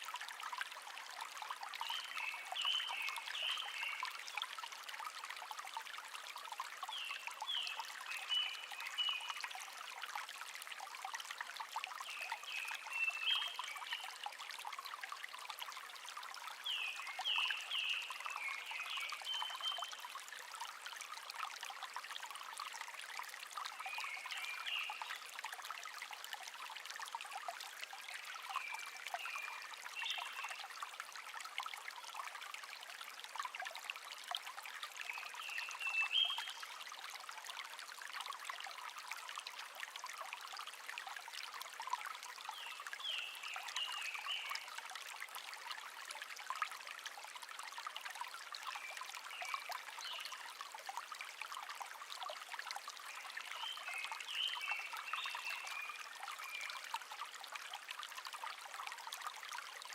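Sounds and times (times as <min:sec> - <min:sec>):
stream trickling: 0:00.0 - 0:59.9.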